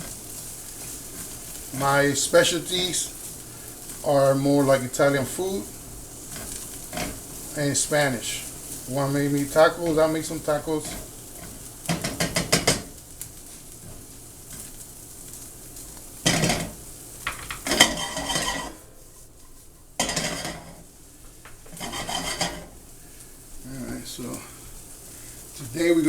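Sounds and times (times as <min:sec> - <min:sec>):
food sizzling: 0:00.0 - 0:26.0
utensil scraping a pan: 0:00.0 - 0:26.0.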